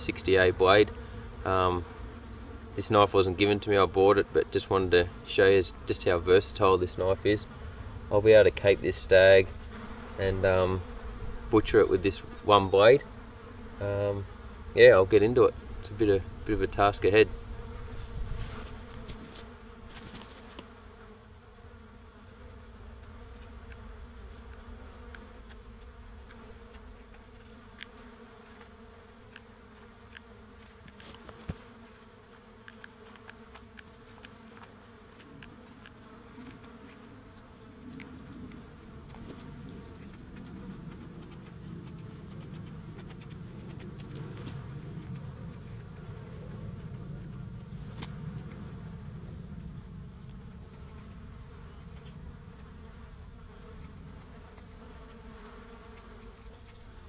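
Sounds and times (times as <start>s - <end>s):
flies buzzing: 0.0s - 57.0s.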